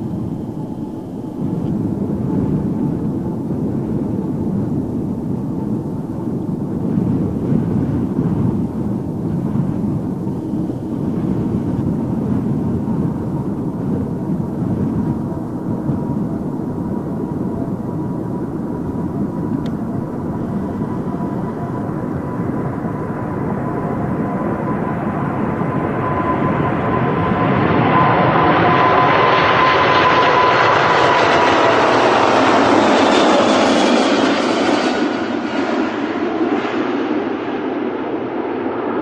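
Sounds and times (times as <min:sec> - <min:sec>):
airplane engines rumbling: 0:00.0 - 0:39.0
thin steady whine: 0:00.0 - 0:39.0.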